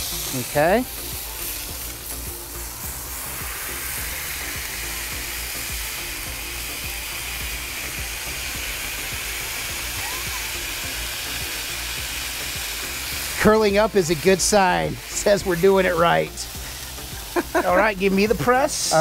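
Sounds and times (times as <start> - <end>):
burger patty sizzling on griddle: 0.0 - 19.0.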